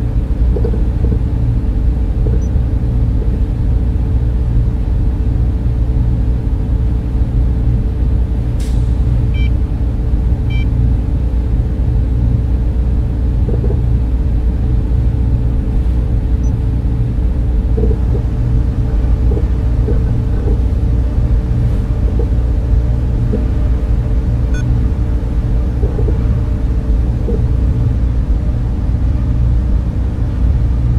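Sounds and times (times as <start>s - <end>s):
low machinery rumble and hum: 0.0s - 30.9s.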